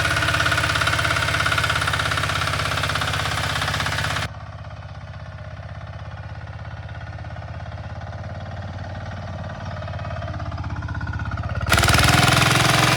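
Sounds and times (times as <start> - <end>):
tractor engine running: 0.0 - 5.0, 7.2 - 12.9.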